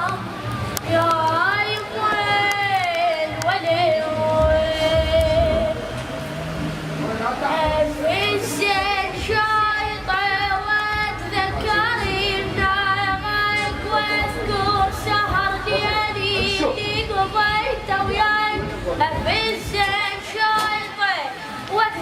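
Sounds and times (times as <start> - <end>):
high voice singing with vibrato: 0.0 - 6.1, 7.4 - 22.0
low steady accompaniment: 0.0 - 22.0.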